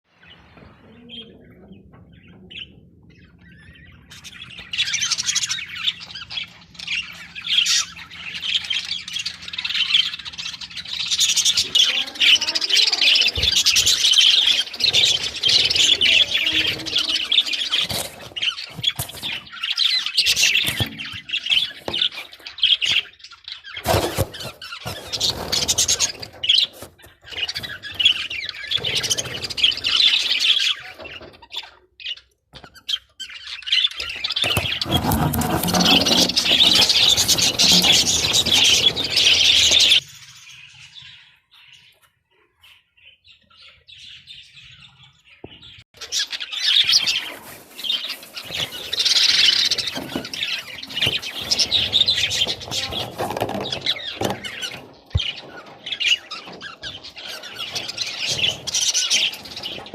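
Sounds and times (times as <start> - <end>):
budgies chirping: 0.1 - 59.9.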